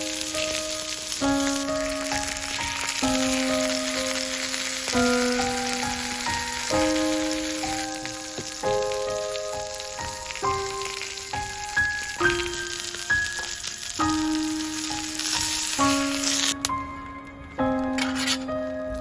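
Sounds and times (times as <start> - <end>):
sausages sizzling on a griddle: 0.0 - 16.6
music of sustained notes: 0.0 - 19.0.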